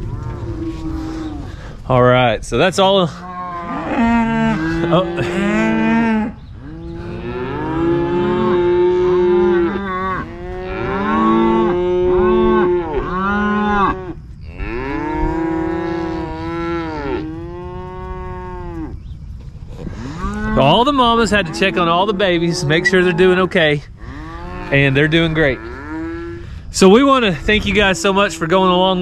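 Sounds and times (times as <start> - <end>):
cows and calves mooing: 0.0 - 1.8, 3.0 - 29.0.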